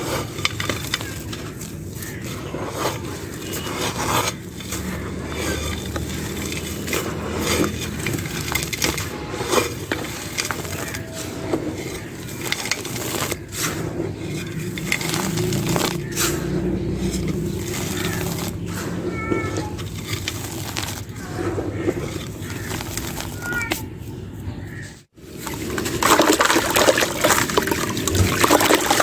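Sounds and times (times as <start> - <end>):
dry clay crumbling: 0.0 - 29.0.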